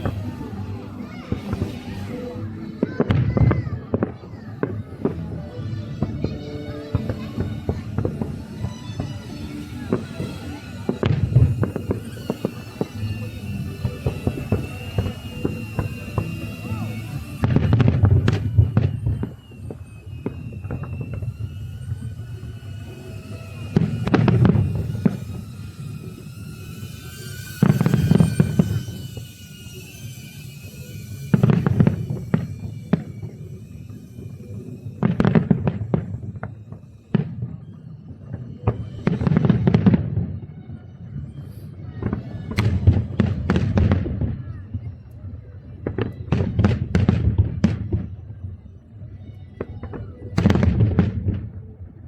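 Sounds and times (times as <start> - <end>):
fireworks booming: 0.0 - 48.7, 49.6 - 52.0
fireworks crackling: 0.0 - 52.0.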